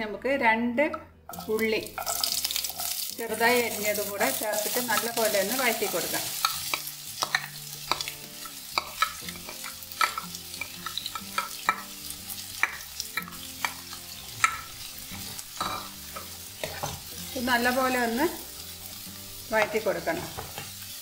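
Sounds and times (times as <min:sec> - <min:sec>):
onions sizzling in oil: 0:01.3 - 0:21.0.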